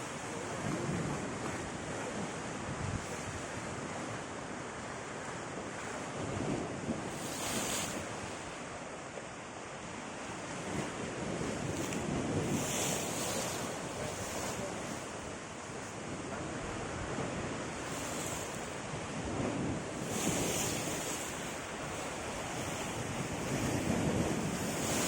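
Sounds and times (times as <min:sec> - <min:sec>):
wind buffeting microphone: 0:00.0 - 0:08.9, 0:10.2 - 0:25.0
ocean waves breaking on beach: 0:00.0 - 0:25.0.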